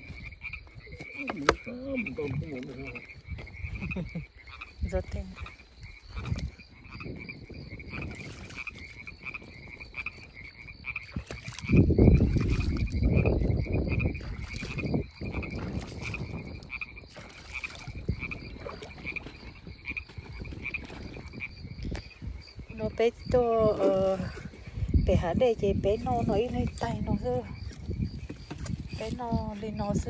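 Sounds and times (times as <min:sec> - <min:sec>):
frogs croaking: 0:00.0 - 0:30.0.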